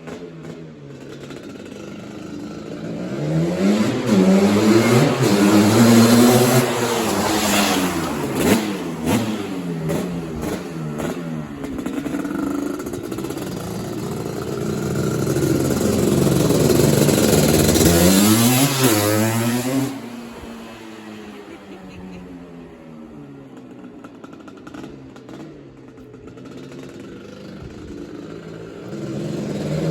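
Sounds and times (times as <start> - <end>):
quad engine revving: 0.0 - 29.9.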